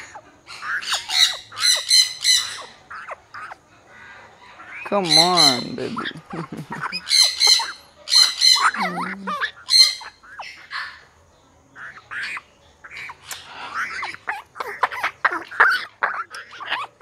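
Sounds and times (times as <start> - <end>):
parrots squawking: 0.0 - 11.2, 11.8 - 17.0.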